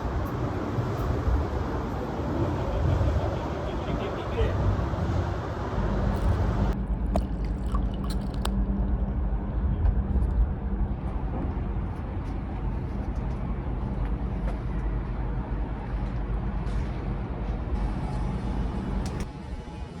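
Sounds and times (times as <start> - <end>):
low rumble of machinery: 0.0 - 20.0.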